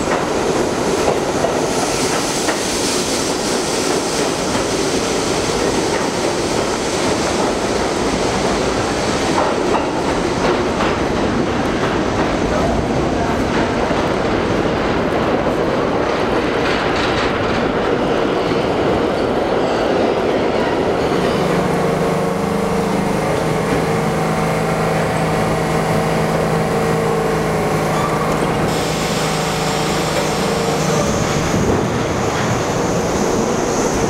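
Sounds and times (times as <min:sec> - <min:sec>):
standing train low hum: 0:00.0 - 0:34.0
train rumbling on rails: 0:00.0 - 0:34.0.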